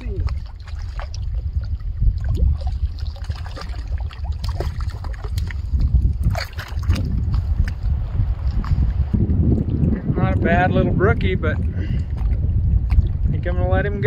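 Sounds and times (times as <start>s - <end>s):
water splashing and sloshing: 0.0s - 14.0s
wind rumble on microphone: 0.0s - 14.0s.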